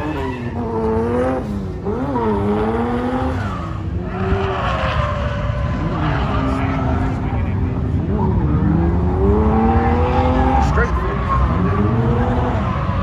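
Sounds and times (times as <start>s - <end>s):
car engine revving: 0.0s - 13.0s
rough tyre noise: 0.0s - 13.0s.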